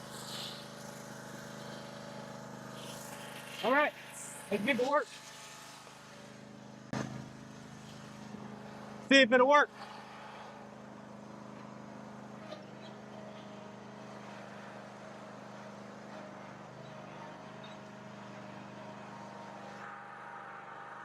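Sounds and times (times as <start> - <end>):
riding lawn mower engine: 0.0 - 21.0.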